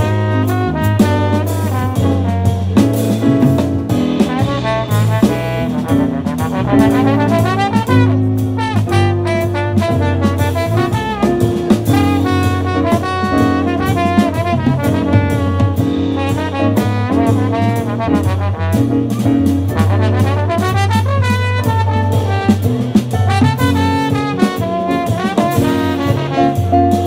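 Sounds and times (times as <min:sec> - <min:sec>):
brass instruments playing: 0:00.0 - 0:27.0
drum kit: 0:00.0 - 0:27.0.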